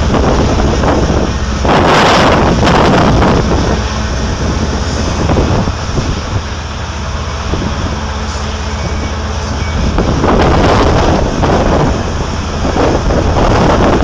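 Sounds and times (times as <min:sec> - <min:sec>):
engines droning: 0:00.0 - 0:14.0
loud rushing noise: 0:00.0 - 0:14.0.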